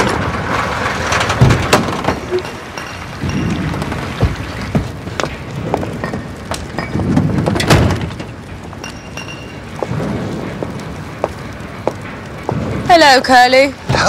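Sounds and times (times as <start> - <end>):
low steady rumble: 0.0 - 14.0
metal and wood knocks and clinks: 0.0 - 14.0.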